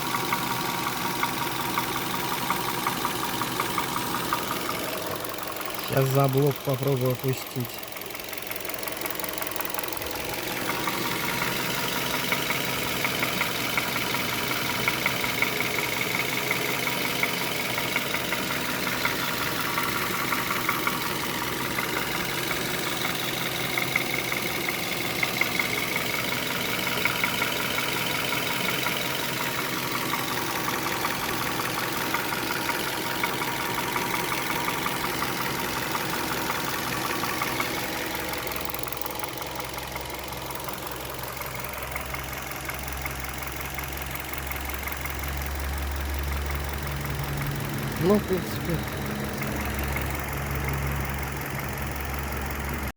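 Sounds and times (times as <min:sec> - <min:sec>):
car engine idling with knock: 0:00.0 - 0:52.9.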